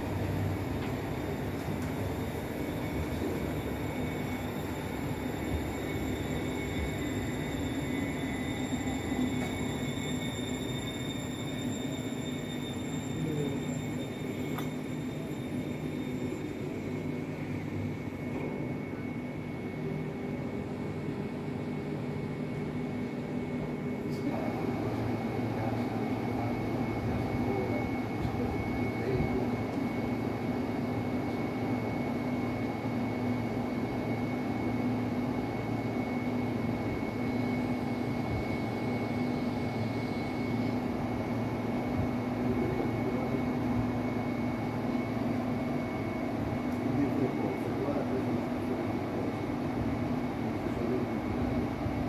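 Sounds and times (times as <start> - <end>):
constant high whine: 0.0 - 52.0
train equipment hum: 0.0 - 52.0.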